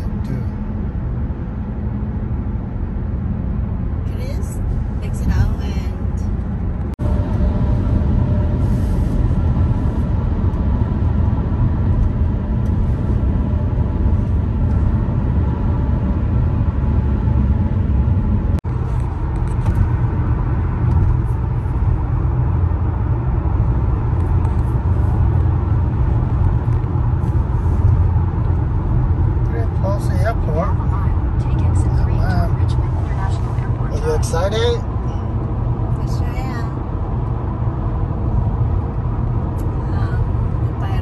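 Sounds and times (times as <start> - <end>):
car cabin engine and tyre rumble: 0.0 - 41.0.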